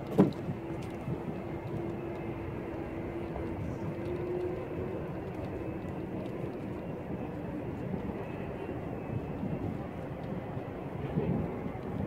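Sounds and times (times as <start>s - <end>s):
mechanical drone with hum: 0.0s - 12.0s.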